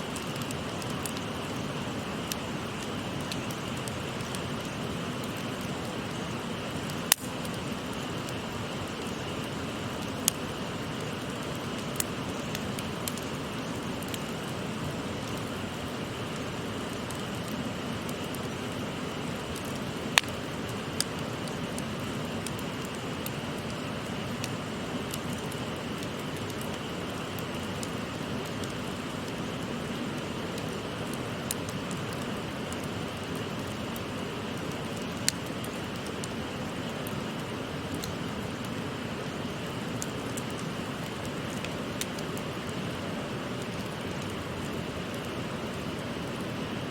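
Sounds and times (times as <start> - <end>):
campfire crackling: 0.0 - 46.9
fire popping: 0.0 - 46.9.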